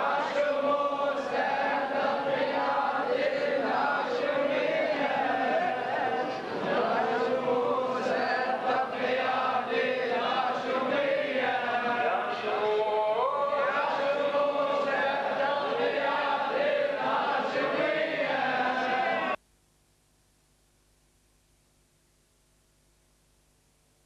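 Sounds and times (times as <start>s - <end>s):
men chanting in unison: 0.0s - 19.4s.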